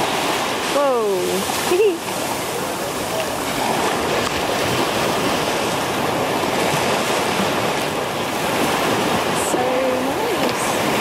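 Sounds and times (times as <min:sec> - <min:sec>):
ocean waves breaking: 0:00.0 - 0:11.0
wind on microphone: 0:00.0 - 0:11.0.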